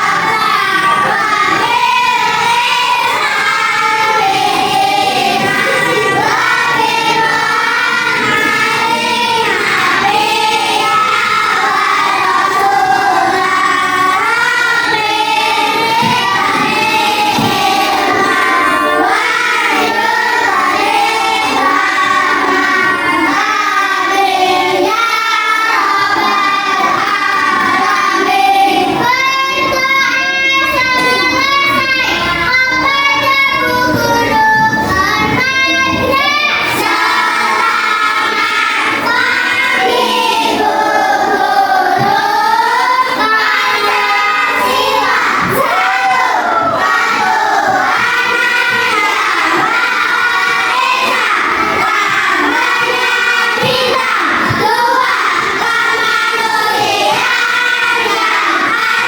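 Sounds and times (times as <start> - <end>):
children singing: 0.0 - 59.0.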